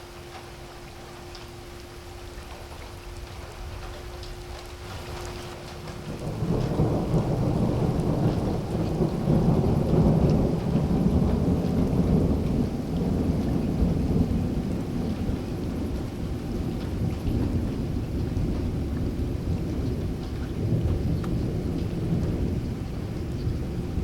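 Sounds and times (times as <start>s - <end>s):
rain falling: 0.0s - 24.0s
thunder rumbling: 0.0s - 24.0s.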